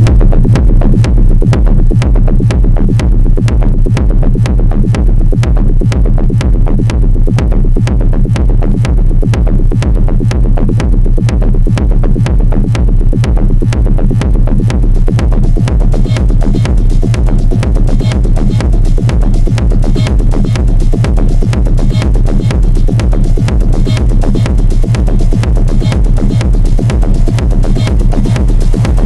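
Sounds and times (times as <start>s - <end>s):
electronic music with heavy bass: 0.0s - 29.0s.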